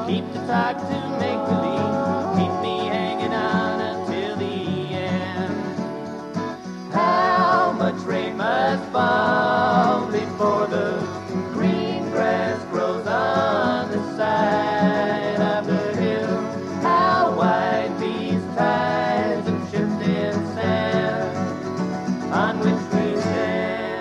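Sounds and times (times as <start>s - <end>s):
acoustic guitar playing: 0.0s - 24.0s
voices singing in harmony: 0.0s - 24.0s.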